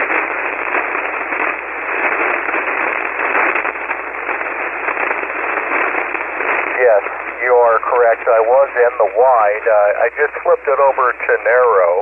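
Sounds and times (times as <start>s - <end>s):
radio band noise hiss: 0.0s - 12.0s.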